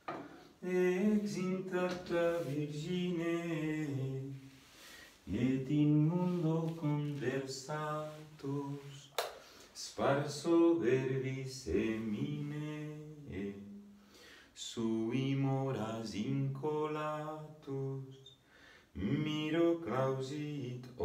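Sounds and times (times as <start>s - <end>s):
person singing slow devotional song: 0.1s - 14.0s, 14.6s - 18.3s, 18.9s - 21.0s.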